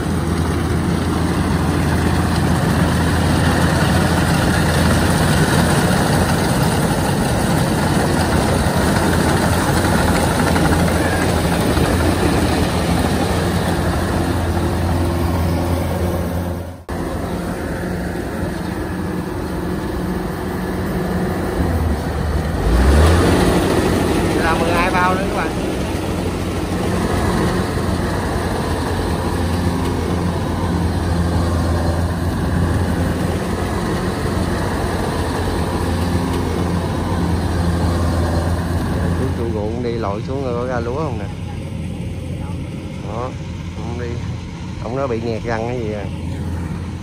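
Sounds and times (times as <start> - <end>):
diesel engine drone: 0.0 - 47.0.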